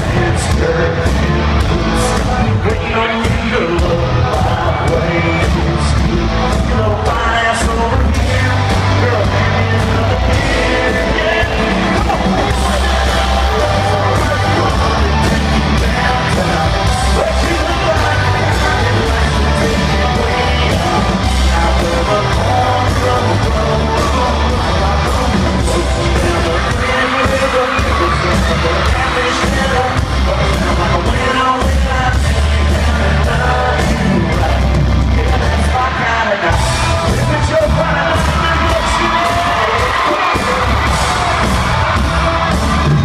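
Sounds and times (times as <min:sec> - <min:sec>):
crowd yelling: 0:00.0 - 0:43.0
heavy bass beat: 0:00.0 - 0:43.0
live country band playing: 0:00.0 - 0:43.0
man singing into microphone: 0:00.0 - 0:43.0.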